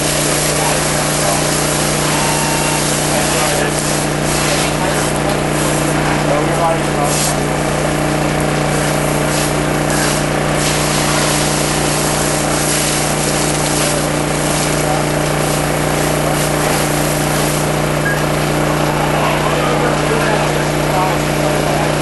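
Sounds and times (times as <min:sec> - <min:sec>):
fire truck pump engine drone: 0:00.0 - 0:22.0.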